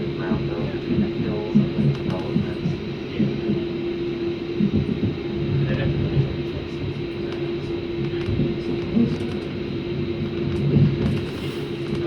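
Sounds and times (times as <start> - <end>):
faint high whine: 0.0 - 12.0
train electrical hum: 0.0 - 12.0.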